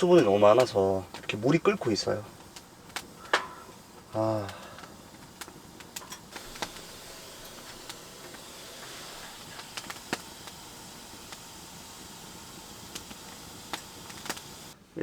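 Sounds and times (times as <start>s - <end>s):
wet wood hissing: 0.0s - 14.8s
wood popping: 0.0s - 14.8s.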